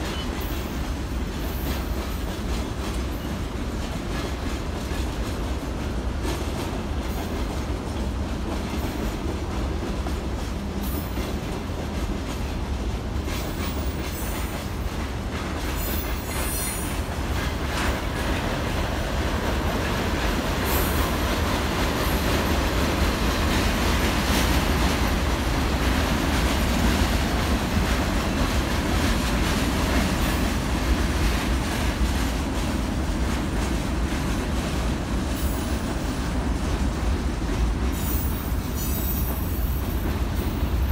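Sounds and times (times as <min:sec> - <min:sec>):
freight wagons rumbling on rails: 0:00.0 - 0:40.9
wheels clicking over rail joints: 0:00.0 - 0:40.9.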